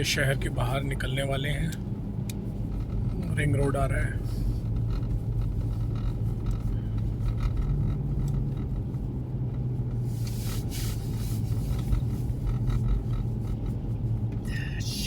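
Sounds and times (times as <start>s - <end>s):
car engine and tyres humming: 0.0s - 15.0s.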